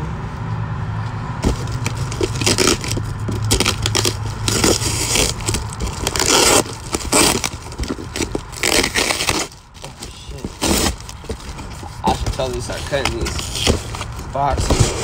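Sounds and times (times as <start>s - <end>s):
bubble wrap crinkling: 1.4s - 15.0s.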